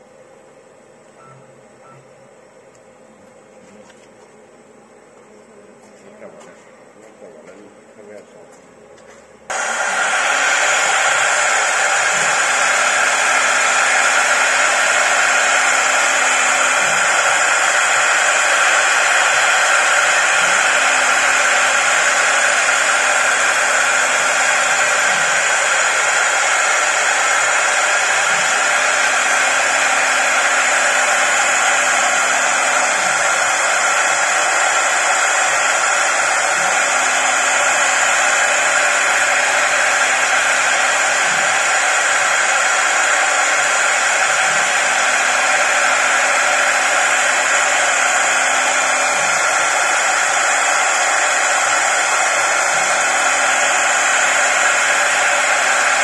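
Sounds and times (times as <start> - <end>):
wood lathe router whirring hiss: 9.5 - 56.0.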